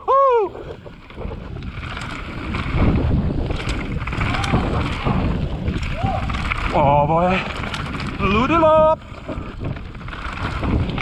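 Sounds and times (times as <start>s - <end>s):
tyres rumbling over rough ground: 0.0s - 11.0s
wind rushing over microphone: 0.0s - 11.0s.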